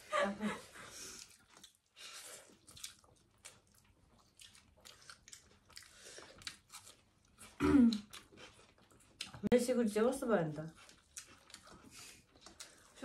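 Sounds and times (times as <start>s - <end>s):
person chewing food: 0.8s - 9.5s, 10.6s - 13.0s.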